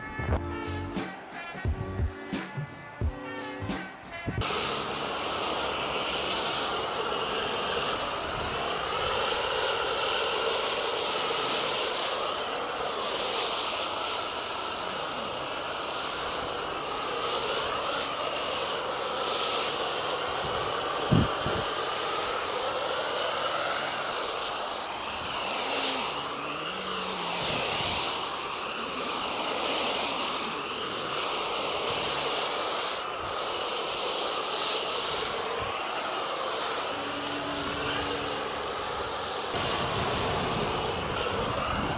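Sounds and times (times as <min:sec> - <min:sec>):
pressure washer spraying water: 0:00.0 - 0:41.9.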